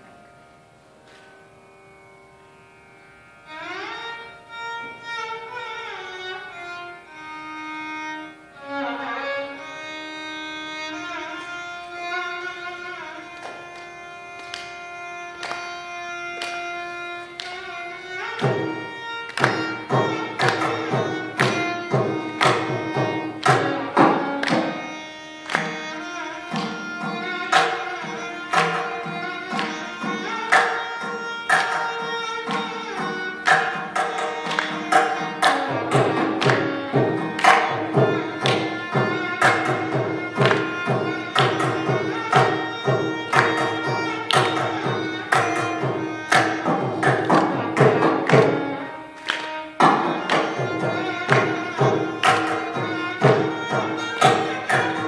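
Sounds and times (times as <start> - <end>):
violin playing slow melody: 0.0 - 55.0.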